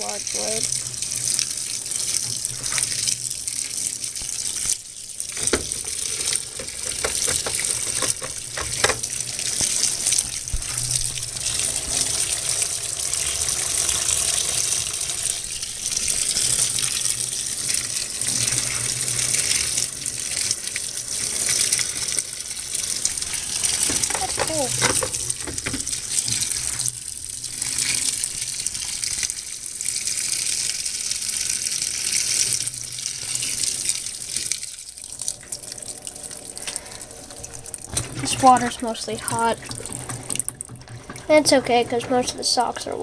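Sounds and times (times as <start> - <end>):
water pouring into washing machine: 0.0 - 43.0.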